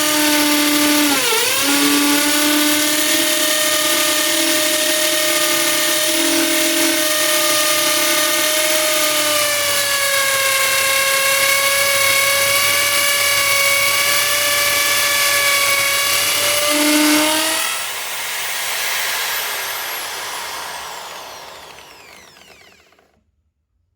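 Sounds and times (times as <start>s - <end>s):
electric drill motor whining: 0.0s - 23.2s.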